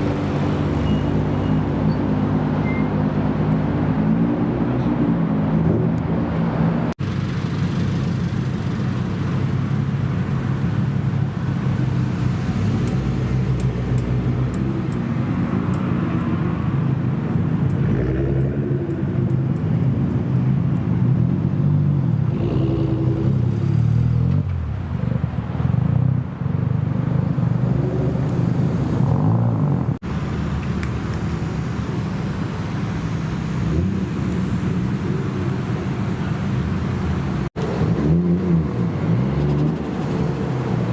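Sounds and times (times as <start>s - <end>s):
car engines idling and revving: 0.0s - 40.9s.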